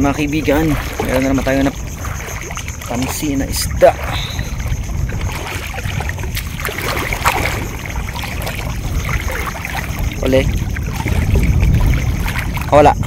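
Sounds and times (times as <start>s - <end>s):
shallow water sloshing and splashing: 0.0s - 13.0s
wind buffeting microphone: 0.0s - 13.0s.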